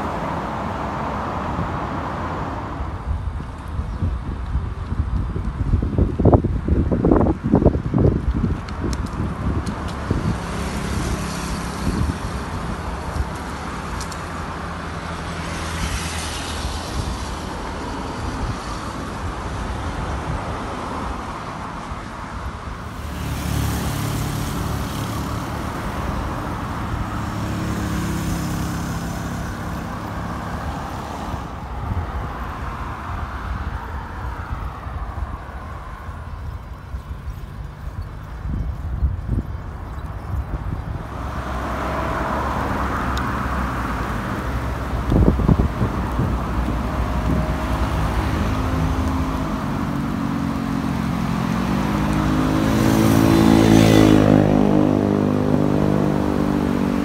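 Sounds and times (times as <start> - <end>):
highway traffic hum: 0.0 - 57.0.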